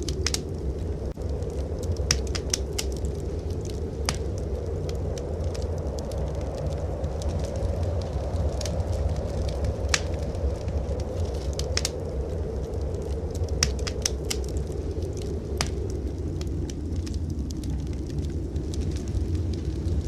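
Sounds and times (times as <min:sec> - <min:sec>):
fireplace fire crackling: 0:00.0 - 0:20.0
low fire rumble: 0:00.0 - 0:20.0.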